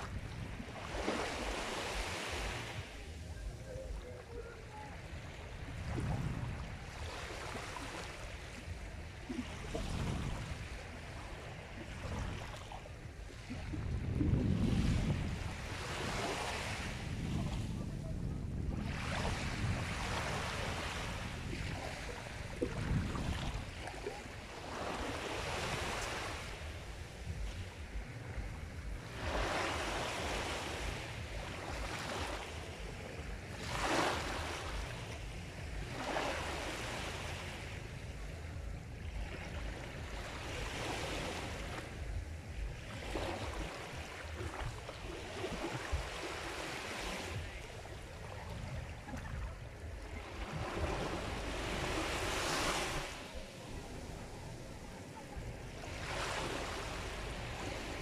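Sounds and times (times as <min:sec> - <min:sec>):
waves breaking and washing in: 0:00.0 - 0:58.0
steady low rumble: 0:02.0 - 0:16.1, 0:16.8 - 0:25.0, 0:25.7 - 0:46.7, 0:53.2 - 0:58.0.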